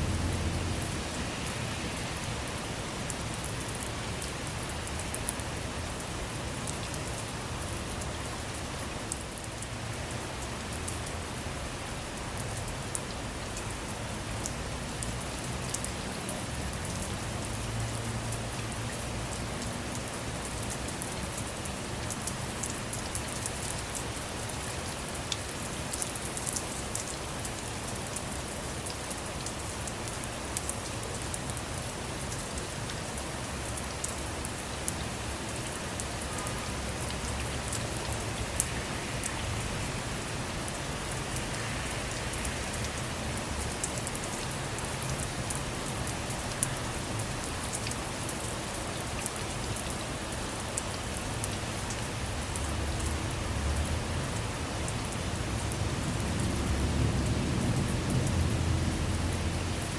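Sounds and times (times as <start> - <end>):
rain falling on a car: 0.0 - 59.9.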